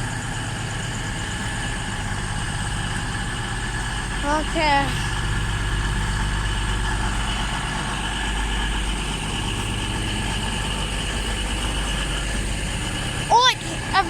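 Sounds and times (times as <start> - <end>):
electric train humming: 0.0 - 14.0.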